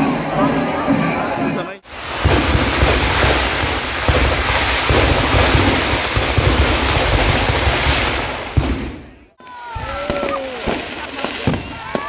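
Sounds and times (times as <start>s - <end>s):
firecrackers crackling rapidly: 1.8s - 12.0s.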